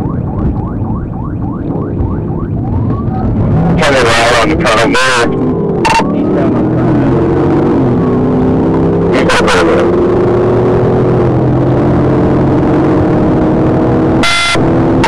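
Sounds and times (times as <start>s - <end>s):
car engine accelerating: 1.4s - 15.0s.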